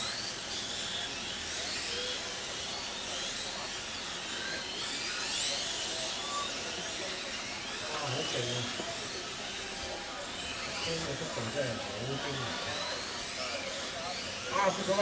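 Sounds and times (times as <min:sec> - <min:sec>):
electric rc motorcycles whining: 0:00.0 - 0:15.0.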